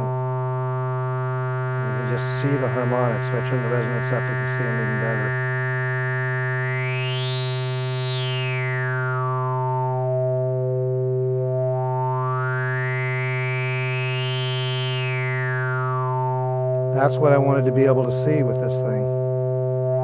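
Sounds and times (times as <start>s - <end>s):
synthesizer low tone with filter sweep: 0.0s - 20.0s.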